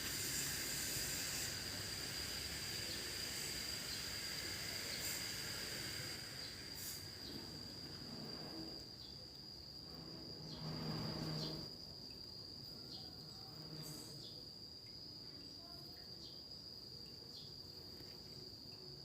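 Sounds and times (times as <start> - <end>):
cicadas singing: 0.0 - 19.0.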